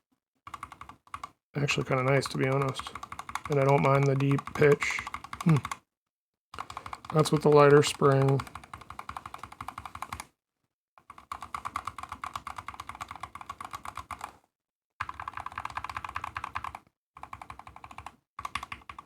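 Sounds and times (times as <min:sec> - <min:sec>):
mechanical keyboard typing: 0:00.5 - 0:05.8, 0:06.6 - 0:10.3, 0:11.0 - 0:14.4, 0:15.0 - 0:19.0.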